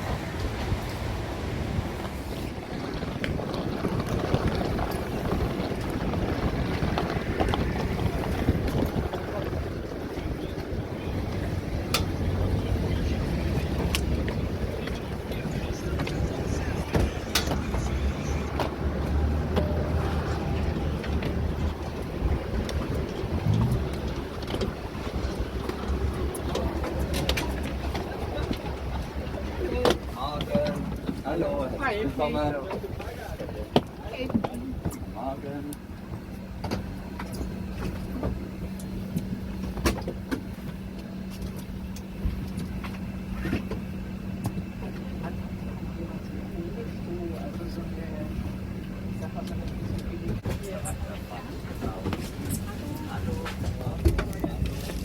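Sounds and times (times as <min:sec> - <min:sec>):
aircraft cabin air hum: 0:00.0 - 0:55.0
steady low rumble: 0:00.0 - 0:55.0.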